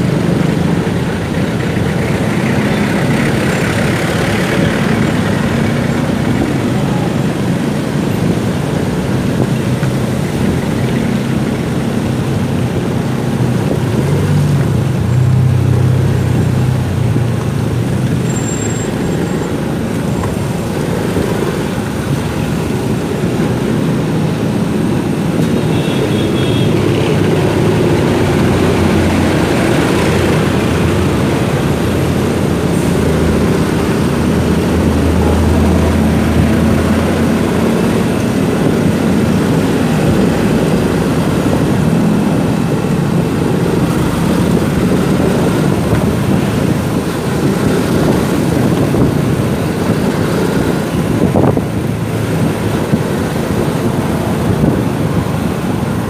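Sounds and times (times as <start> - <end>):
rushing air: 0.0 - 56.0
traffic hum: 0.0 - 56.0.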